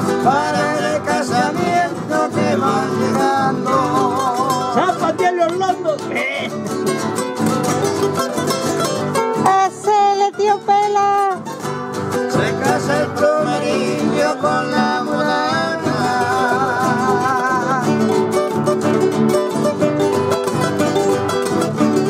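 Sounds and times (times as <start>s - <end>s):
acoustic guitars playing: 0.0s - 22.0s.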